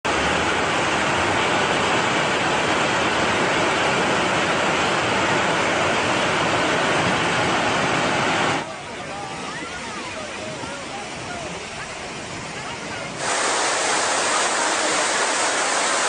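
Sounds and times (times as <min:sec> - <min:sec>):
floodwater rushing: 0:00.1 - 0:16.0.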